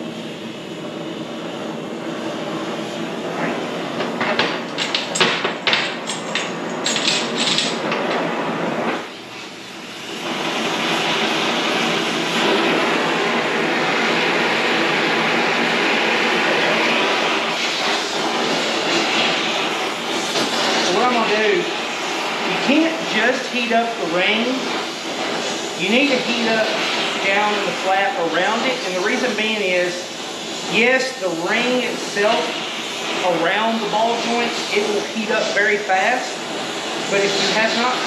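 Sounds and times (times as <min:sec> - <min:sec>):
flame popping and crackling: 0:00.0 - 0:38.0
torch hissing roar: 0:00.0 - 0:38.0.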